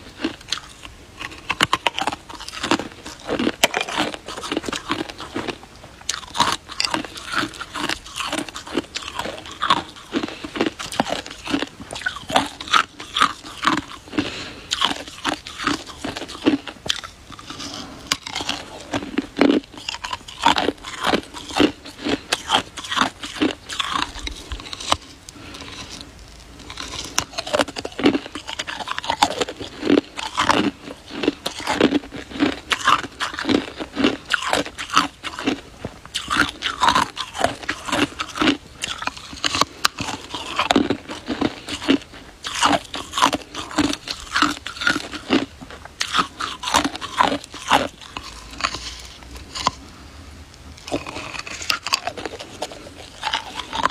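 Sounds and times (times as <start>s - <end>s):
person crunching ice: 0.0s - 49.9s, 50.8s - 53.9s.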